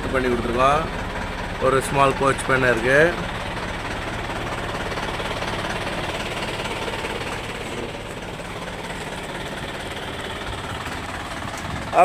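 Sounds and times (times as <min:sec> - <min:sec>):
minibus engine idling: 0:00.0 - 0:12.0.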